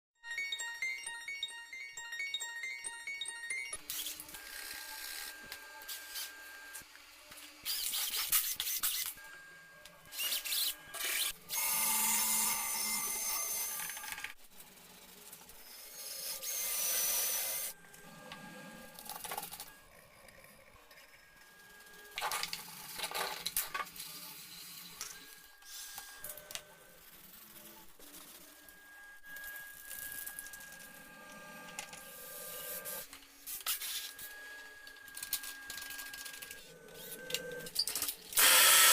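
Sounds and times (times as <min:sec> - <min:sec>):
power tool running: 0:03.8 - 0:14.4, 0:15.2 - 0:38.9.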